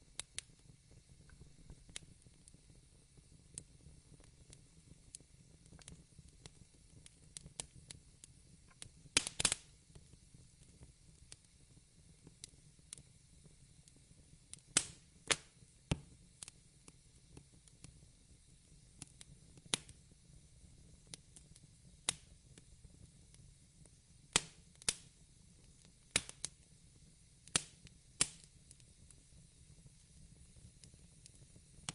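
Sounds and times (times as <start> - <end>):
faint steady hiss: 0.0 - 31.9
wood fire crackling: 0.0 - 31.9.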